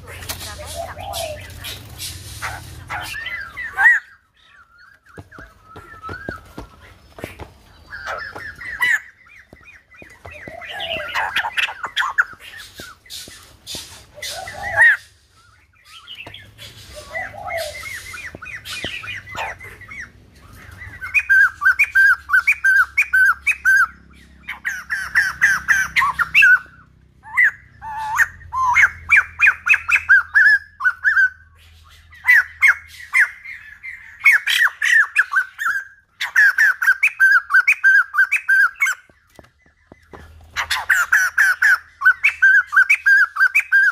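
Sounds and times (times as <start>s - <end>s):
bird chattering calls: 0.0s - 43.9s.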